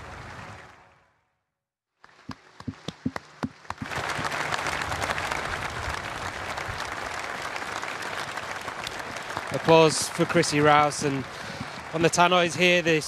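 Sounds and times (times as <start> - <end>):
crowd applause: 0.0 - 1.1, 2.0 - 13.0.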